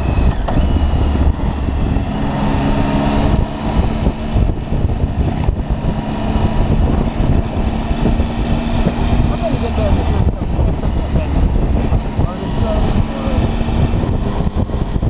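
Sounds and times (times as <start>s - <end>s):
motorcycle engine running: 0.0s - 15.0s
wind rumble: 0.0s - 15.0s.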